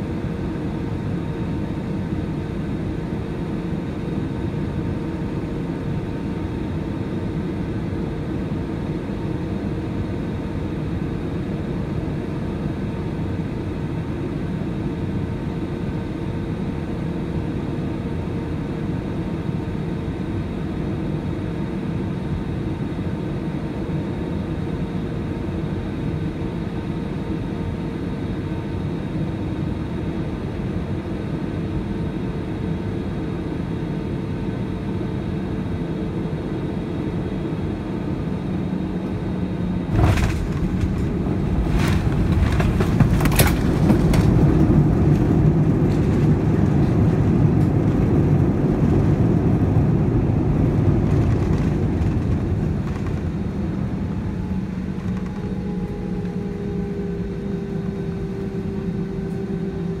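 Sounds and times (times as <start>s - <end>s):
engine and airflow rumble: 0.0s - 60.0s.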